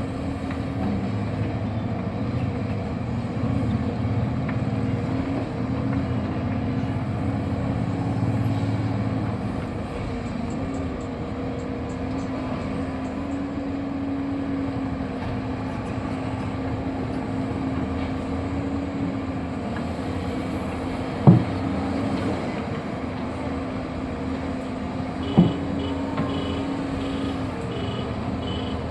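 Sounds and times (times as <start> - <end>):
excavator running: 0.0 - 28.9.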